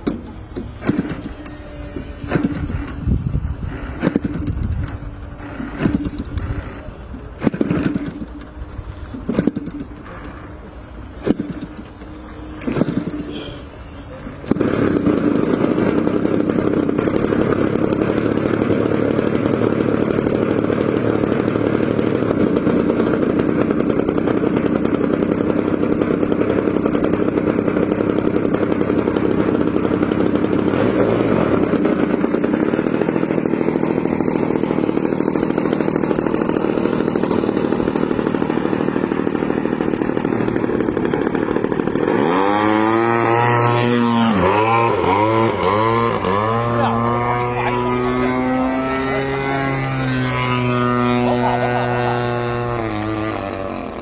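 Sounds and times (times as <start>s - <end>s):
model airplane engine: 0.0s - 54.0s.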